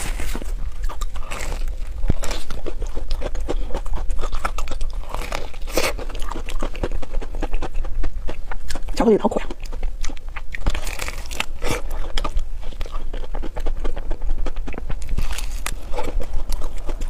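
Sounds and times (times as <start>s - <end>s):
crisp crunching: 0.0s - 7.9s, 10.5s - 17.0s
chewing: 0.0s - 17.0s.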